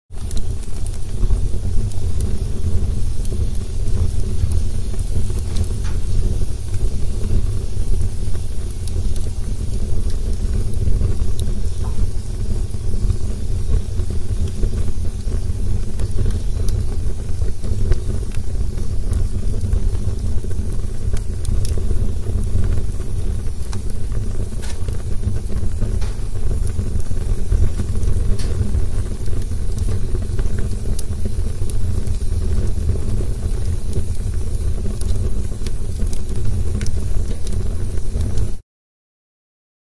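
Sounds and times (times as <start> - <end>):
fire crackling and popping: 0.1 - 38.6
rumble of fire flames: 0.1 - 38.6.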